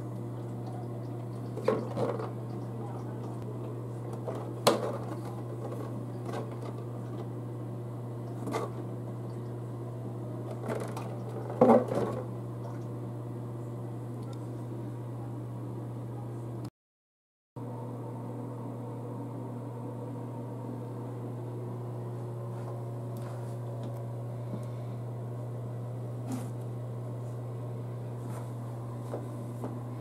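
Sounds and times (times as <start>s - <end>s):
steady low hum: 0.0s - 16.7s, 17.6s - 30.0s.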